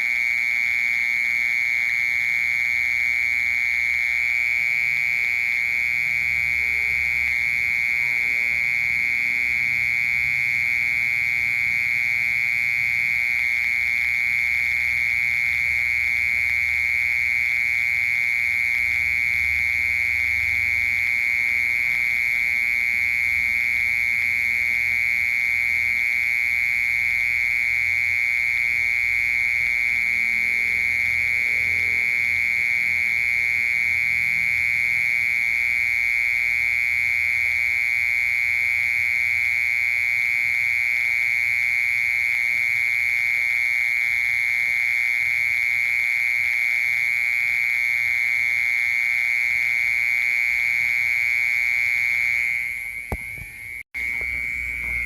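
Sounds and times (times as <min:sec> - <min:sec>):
mole cricket trilling: 0:00.0 - 0:55.0.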